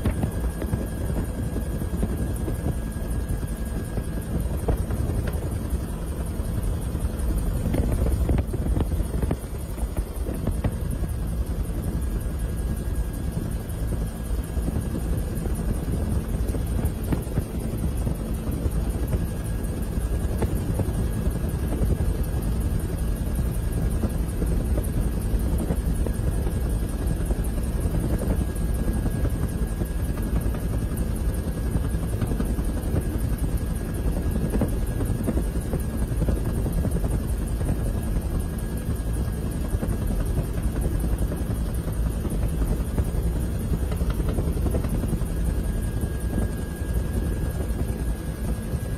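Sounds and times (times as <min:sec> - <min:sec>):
helicopter engine and rotor drone: 0:00.0 - 0:48.9
thin steady whine: 0:00.0 - 0:48.9.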